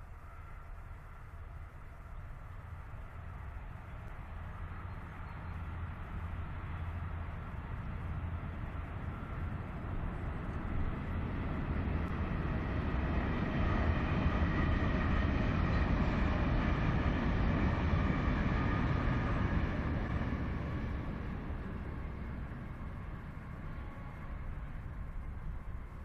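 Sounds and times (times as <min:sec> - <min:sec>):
faint high whine: 0:00.0 - 0:26.0
low wind rumble: 0:00.0 - 0:26.0
train passing rumble: 0:00.0 - 0:26.0.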